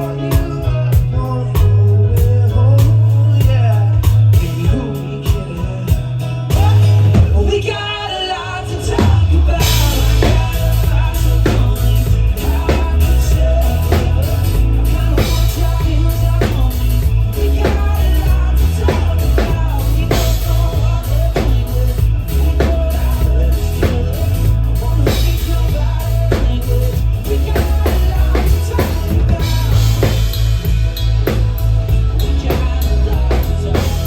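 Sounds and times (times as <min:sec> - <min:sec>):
drum kit beat: 0:00.0 - 0:07.9, 0:08.6 - 0:34.0
live band through pa: 0:00.0 - 0:34.0.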